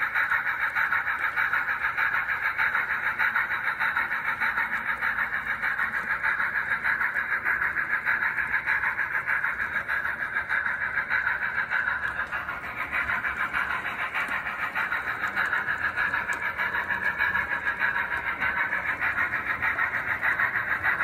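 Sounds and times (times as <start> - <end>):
model locomotive clatter: 0.0 - 21.0.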